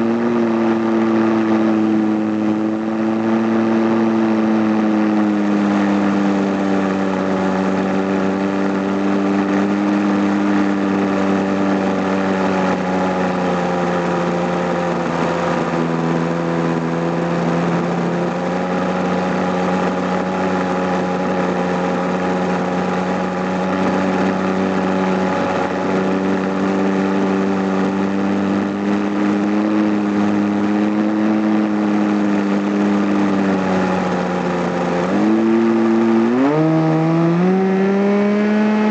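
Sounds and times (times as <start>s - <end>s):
model airplane engine running: 0.0s - 38.9s.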